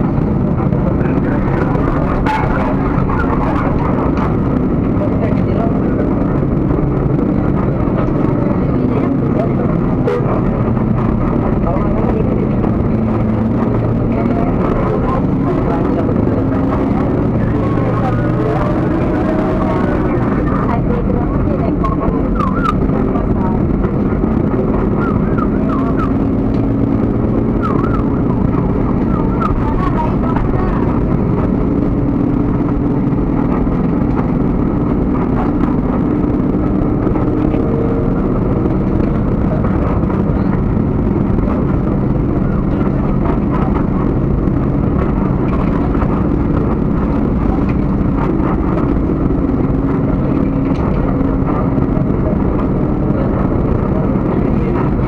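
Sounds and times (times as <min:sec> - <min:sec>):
low vehicle engine rumble: 0:00.0 - 0:55.0.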